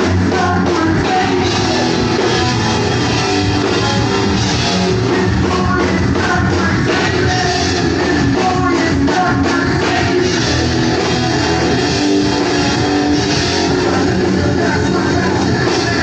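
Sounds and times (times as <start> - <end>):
punk rock band playing loud: 0.0 - 16.0.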